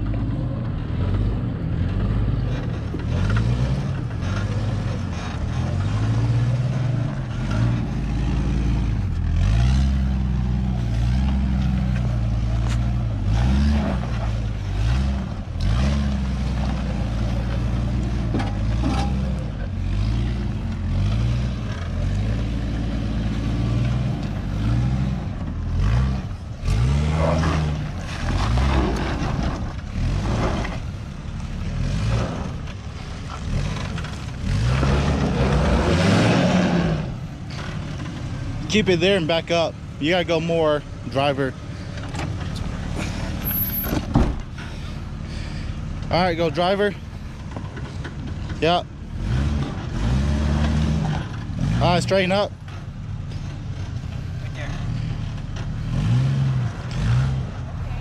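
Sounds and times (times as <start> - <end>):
suv engine revving: 0.0 - 58.0.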